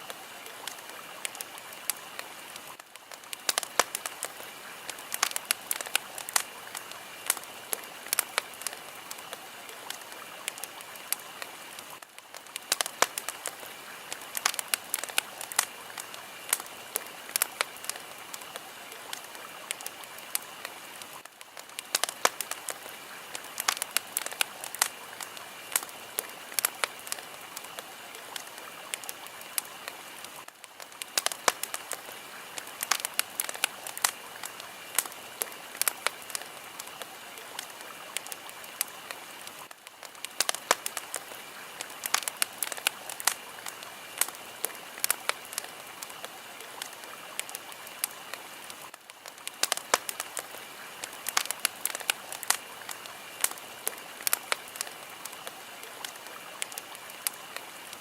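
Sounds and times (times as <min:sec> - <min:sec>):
fire crackling and hissing: 0:00.0 - 0:58.0.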